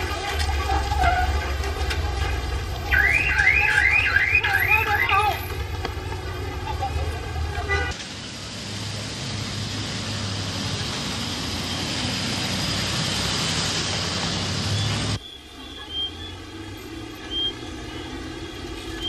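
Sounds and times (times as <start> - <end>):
minibus engine running: 0.0 - 19.0
traffic noise: 0.0 - 19.0.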